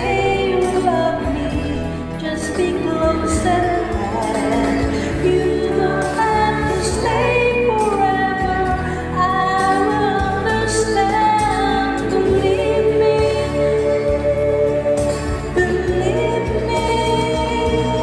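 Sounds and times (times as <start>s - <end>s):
karaoke backing track: 0.0s - 18.0s
woman singing: 0.0s - 18.0s.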